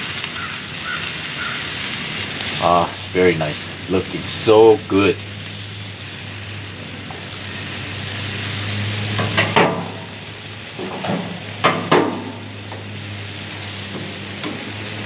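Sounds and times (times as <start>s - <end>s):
sausages sizzling on grill: 0.0s - 15.0s.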